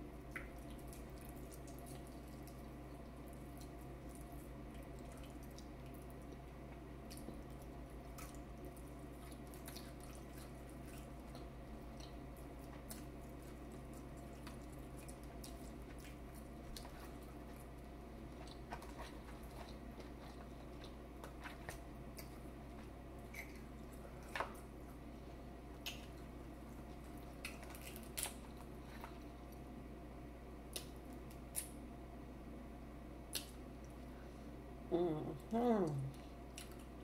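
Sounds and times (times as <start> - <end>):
low steady hum: 0.0 - 37.0
person chewing wetly: 0.1 - 29.7, 33.3 - 34.1, 36.1 - 37.0.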